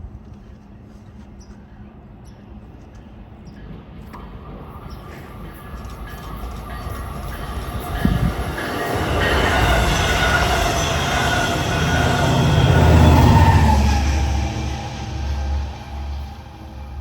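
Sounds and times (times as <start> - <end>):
rumbling wheel and rail noise: 0.0 - 17.0
train passing: 0.0 - 17.0.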